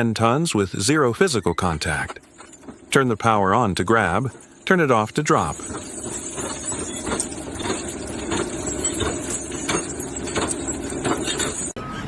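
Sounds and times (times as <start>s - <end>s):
heavy machine engine running: 1.6s - 12.0s.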